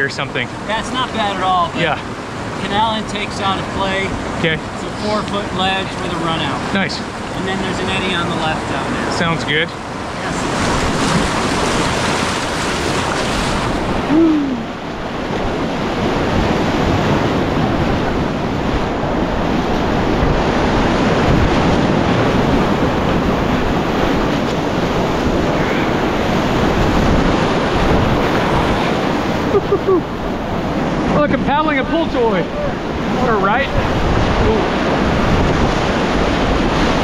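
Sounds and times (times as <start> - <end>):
whitewater roaring: 0.0 - 37.0.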